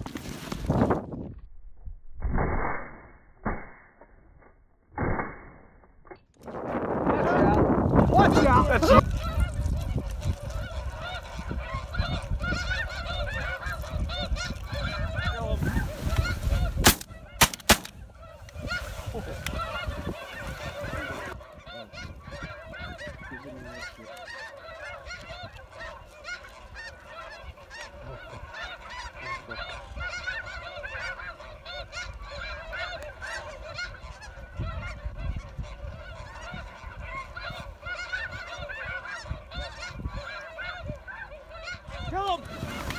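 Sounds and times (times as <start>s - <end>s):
wind rumble on microphone: 0.0s - 2.8s, 6.4s - 23.9s, 24.8s - 42.9s
geese honking: 7.0s - 42.9s.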